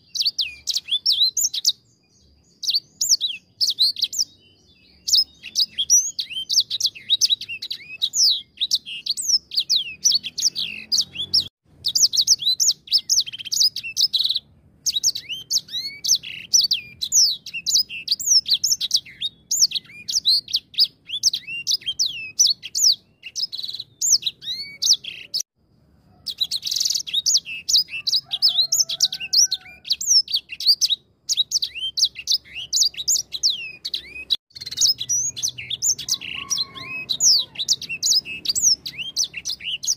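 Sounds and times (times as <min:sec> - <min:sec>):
finch singing chirps and trills: 0:00.0 - 0:25.5, 0:26.3 - 0:39.9.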